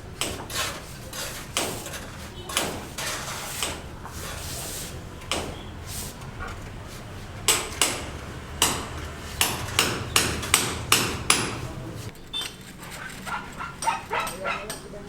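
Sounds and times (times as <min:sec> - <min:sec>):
hammer blows: 0:00.0 - 0:12.1.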